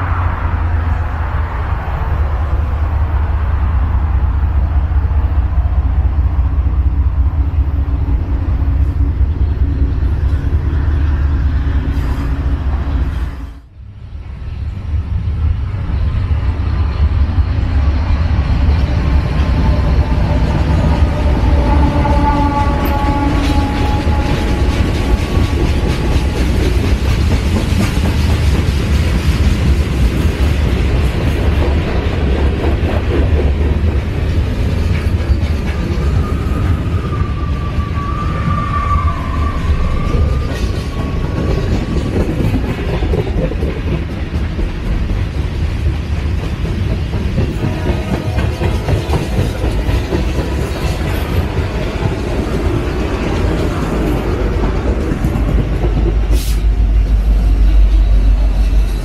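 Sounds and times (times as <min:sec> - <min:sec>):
highway traffic passing: 0:00.0 - 0:37.9, 0:39.4 - 0:59.0
diesel locomotives rumbling: 0:00.0 - 0:59.0
freight train rolling on rails: 0:00.0 - 0:59.0.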